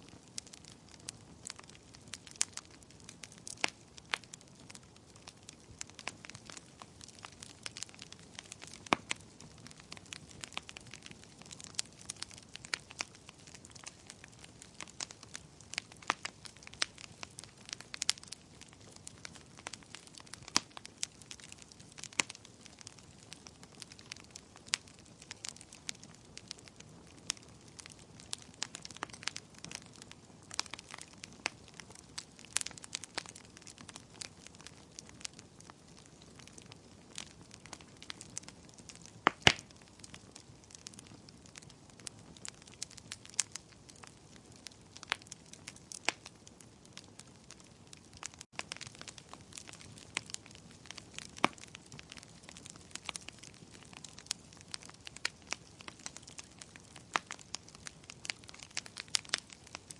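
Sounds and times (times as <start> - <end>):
wood bonfire crackling: 0.0 - 59.9.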